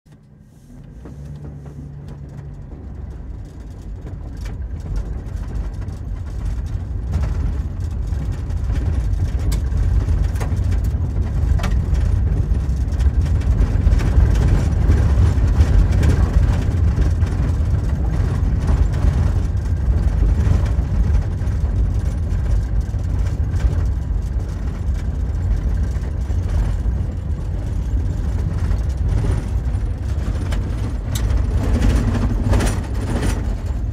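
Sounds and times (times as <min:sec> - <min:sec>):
vehicle rumbling on gravel: 0:00.6 - 0:33.9.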